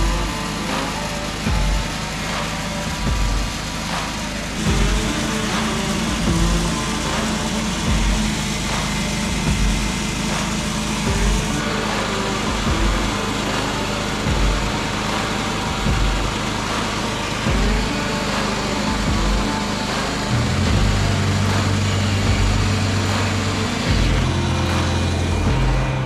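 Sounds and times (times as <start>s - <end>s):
sawmill engine running under load: 0.0s - 26.0s.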